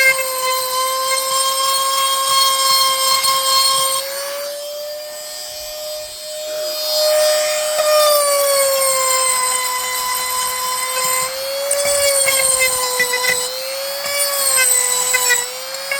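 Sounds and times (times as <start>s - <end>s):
power carving tool cutting wood: 0.0s - 15.9s.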